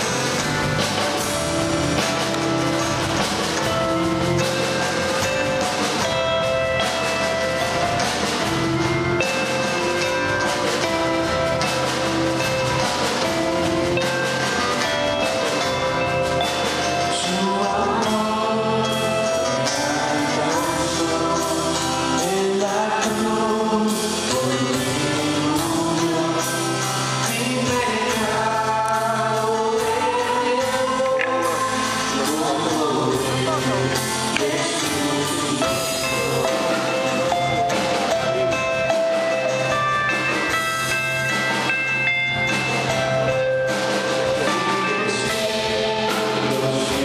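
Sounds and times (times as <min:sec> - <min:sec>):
bass guitar: 0:00.0 - 0:47.0
drum kit: 0:00.0 - 0:47.0
electric guitars: 0:00.0 - 0:47.0
person singing: 0:00.0 - 0:47.0.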